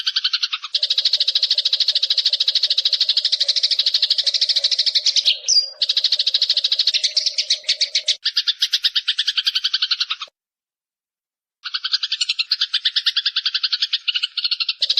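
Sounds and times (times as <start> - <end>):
sparrows chattering: 0.0 - 10.3, 11.6 - 14.9.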